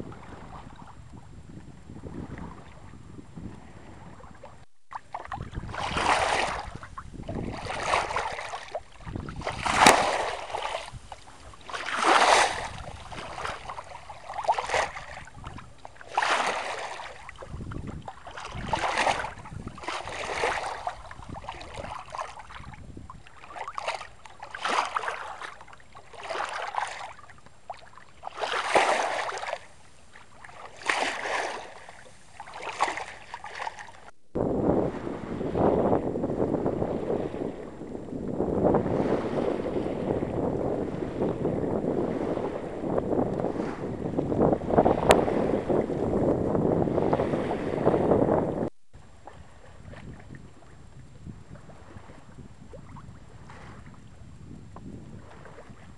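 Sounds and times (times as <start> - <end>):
water splashing along boat hull: 0.0 - 55.9.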